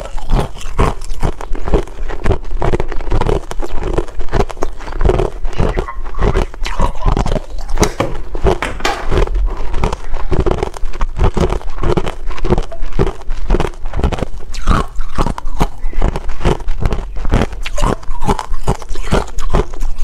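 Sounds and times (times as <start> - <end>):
person crunching ice: 0.0 - 20.0.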